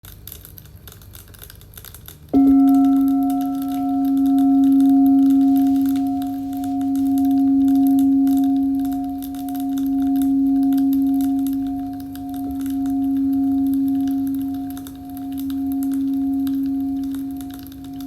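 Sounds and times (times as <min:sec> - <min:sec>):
crystal singing bowl ringing: 0:02.4 - 0:18.0.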